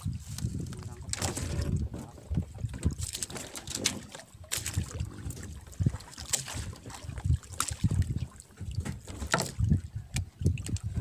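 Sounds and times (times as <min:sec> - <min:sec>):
water slapping against hull: 0:00.0 - 0:11.0
water splashes: 0:00.0 - 0:11.0
wind buffeting microphone: 0:00.0 - 0:11.0.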